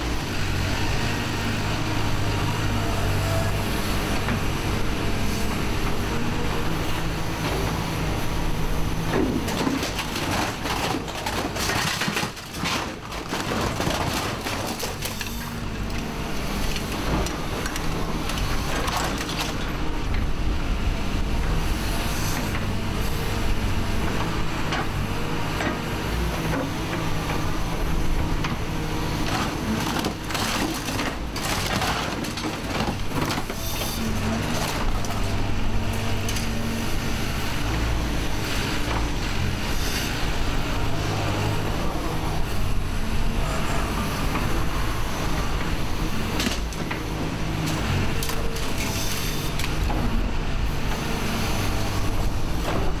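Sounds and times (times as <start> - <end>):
excavator engine running: 0.0 - 53.0
metal crunching and scraping: 2.9 - 20.3, 23.4 - 53.0.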